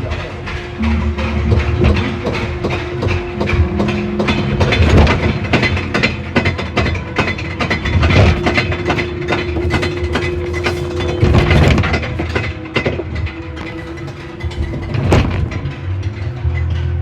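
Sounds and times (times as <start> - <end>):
low rumble: 0.0 - 17.0
ride machinery clattering: 0.0 - 17.0
steady motor hum: 0.0 - 17.0.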